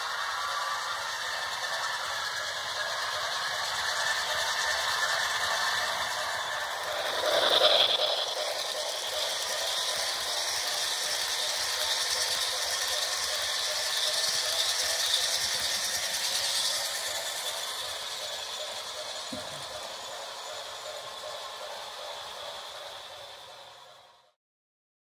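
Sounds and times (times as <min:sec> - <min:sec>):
hissing: 0:00.0 - 0:20.5
model train whirring and rattling: 0:00.0 - 0:24.4.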